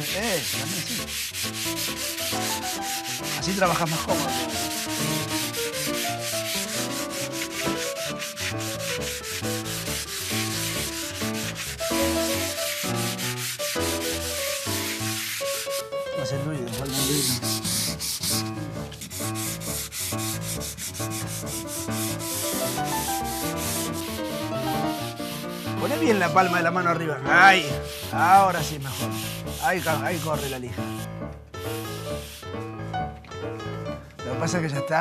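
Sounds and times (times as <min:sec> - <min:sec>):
sandpaper rasping on wall: 0:00.0 - 0:16.0, 0:16.6 - 0:32.9.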